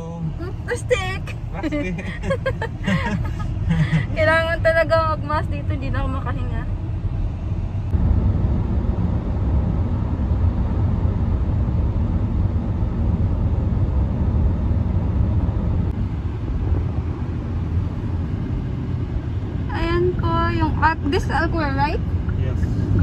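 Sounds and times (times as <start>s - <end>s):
car interior driving rumble: 0.0s - 23.0s.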